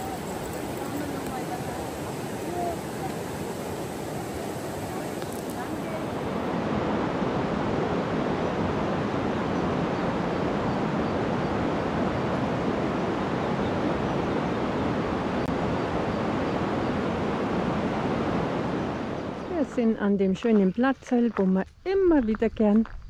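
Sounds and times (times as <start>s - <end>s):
river water rushing: 0.0s - 19.4s.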